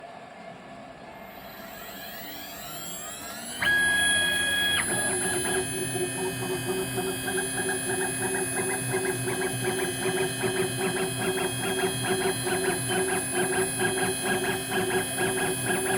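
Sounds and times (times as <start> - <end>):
machine motor whine: 0.9 - 15.9
drill pecking with ticks: 1.3 - 15.9.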